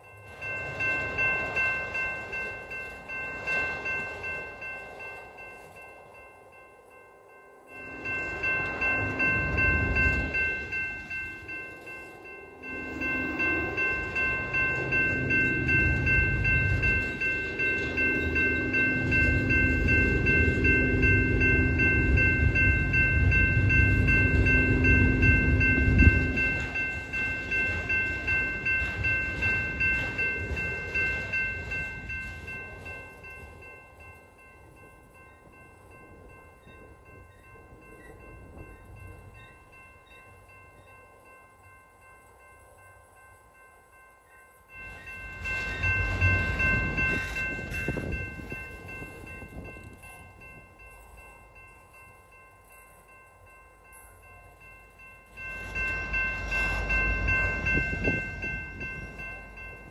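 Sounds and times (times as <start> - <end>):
train wheels clicking on rails: 0.0 - 6.9, 7.6 - 40.9, 43.4 - 59.9
high ringing tones: 0.0 - 59.9.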